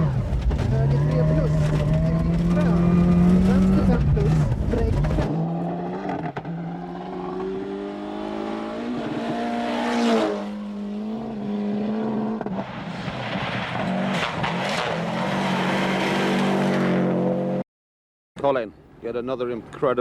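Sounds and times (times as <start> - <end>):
car engine revving: 0.0 - 17.6
tyre and road noise: 0.0 - 17.6.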